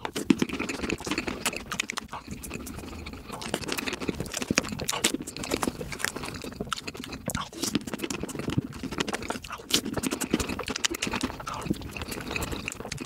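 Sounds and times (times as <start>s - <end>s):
mouth chewing with wet clicks: 0.0s - 13.0s.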